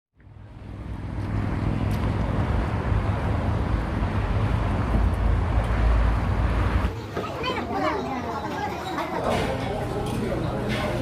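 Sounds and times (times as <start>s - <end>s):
vehicle rumble: 0.2s - 11.0s.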